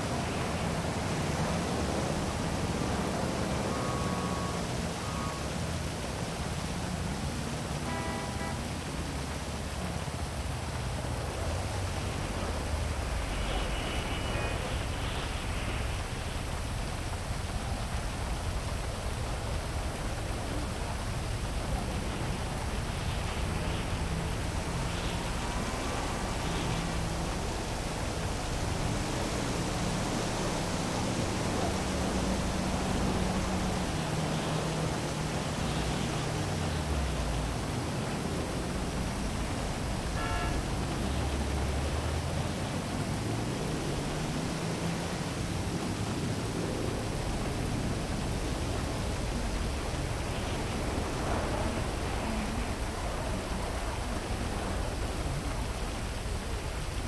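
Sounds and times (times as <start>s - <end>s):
heavy rain falling: 0.0s - 57.0s
low hum of city traffic: 0.0s - 57.0s.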